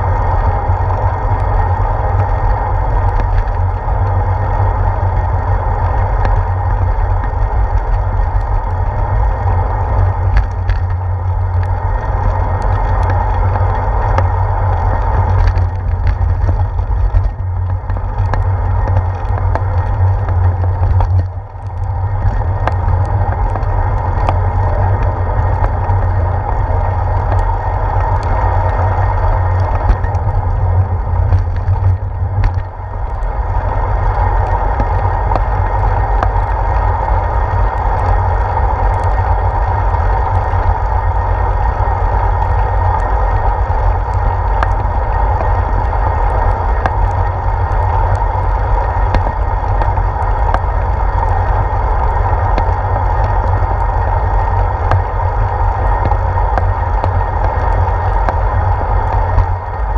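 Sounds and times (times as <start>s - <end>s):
bicycle ticks and rattles: 0.0s - 59.9s
wind and road rumble: 0.0s - 59.9s.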